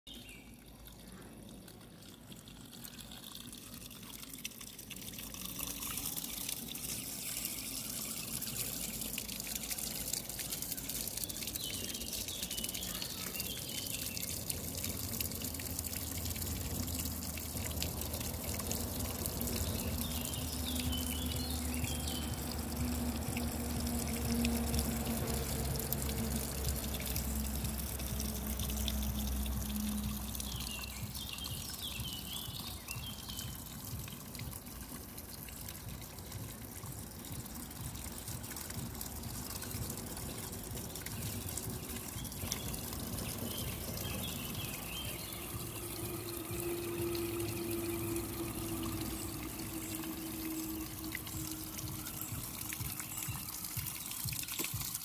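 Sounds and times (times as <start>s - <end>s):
fountain water trickling: 0.1s - 55.0s.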